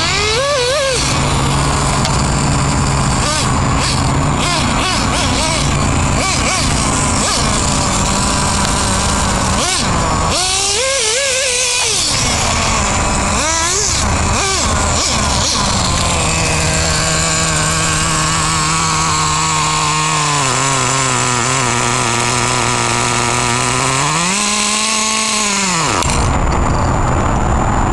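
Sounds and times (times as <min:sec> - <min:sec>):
nitro engine revving and idling: 0:00.0 - 0:27.9.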